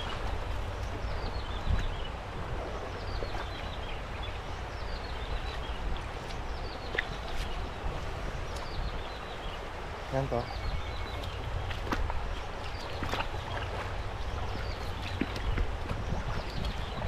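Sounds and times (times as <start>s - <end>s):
river water rushing: 0.0s - 17.0s
wind: 0.0s - 17.0s.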